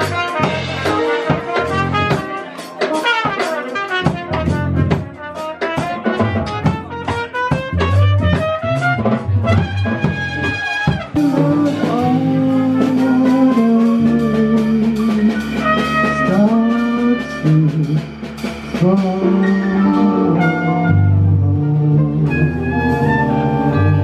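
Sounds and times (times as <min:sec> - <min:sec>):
held horn notes over bass: 0:00.0 - 0:24.0
jazz band with horns and drums: 0:00.0 - 0:24.0.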